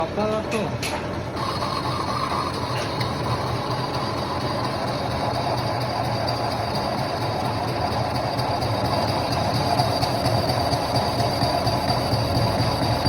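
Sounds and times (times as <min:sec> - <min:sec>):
metal lathe humming: 0:00.0 - 0:13.0.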